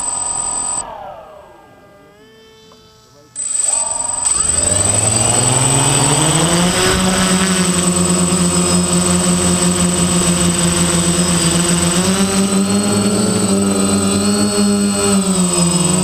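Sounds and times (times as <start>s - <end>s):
drone motors and propellers whirring: 0.0s - 16.0s
thin high whine: 0.0s - 16.0s.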